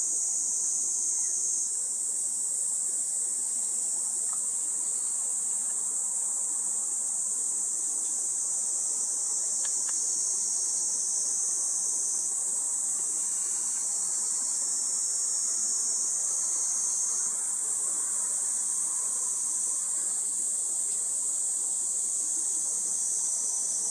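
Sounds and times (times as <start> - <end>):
insect chorus shrill buzzing: 0.0 - 23.9.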